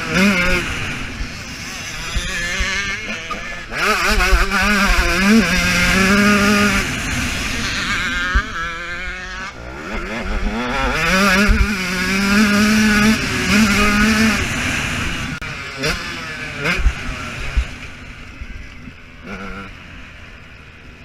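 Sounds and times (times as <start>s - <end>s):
motocross engine revving: 0.0s - 20.7s.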